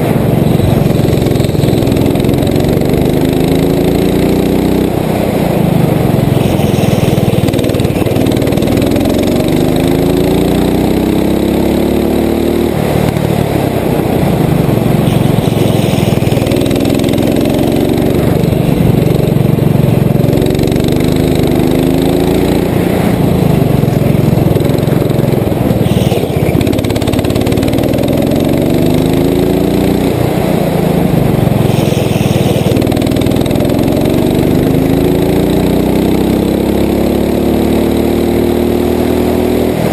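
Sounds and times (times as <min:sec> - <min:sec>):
go-kart engine: 0:00.0 - 0:39.9.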